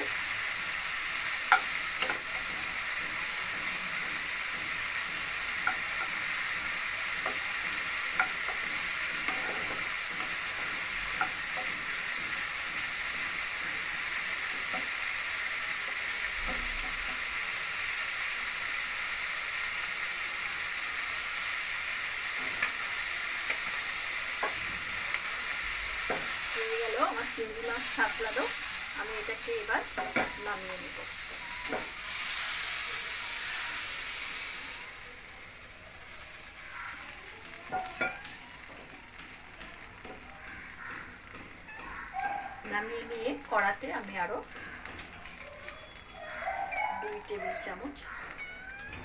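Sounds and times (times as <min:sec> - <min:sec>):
prawns sizzling in a frying pan: 0:00.0 - 0:49.0.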